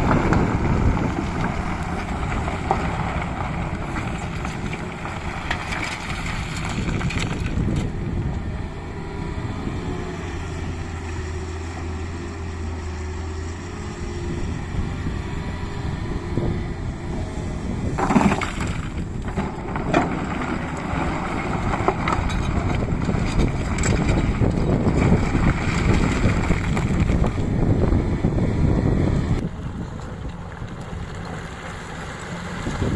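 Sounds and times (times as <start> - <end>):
excavator diesel engine drone: 0.0 - 32.9.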